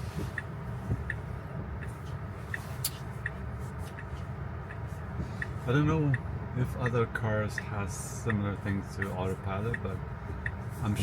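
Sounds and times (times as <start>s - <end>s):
road and tyre rumble: 0.0s - 11.0s
turn signal ticking: 0.0s - 11.0s.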